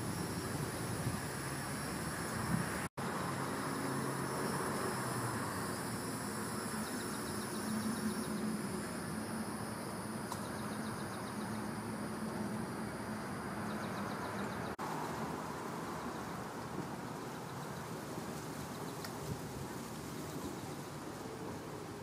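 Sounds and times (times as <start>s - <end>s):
distant traffic rumble: 0.0s - 22.0s
insects trilling: 0.0s - 22.0s.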